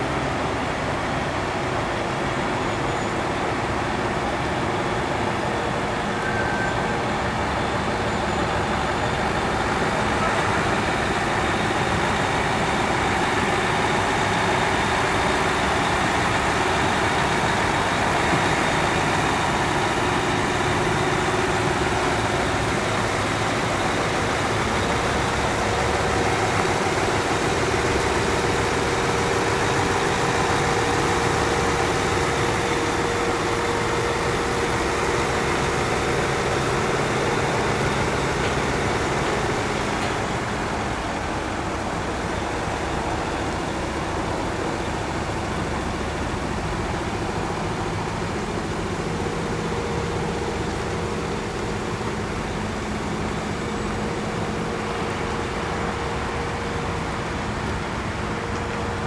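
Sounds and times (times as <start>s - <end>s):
truck diesel engines running: 0.0s - 59.0s.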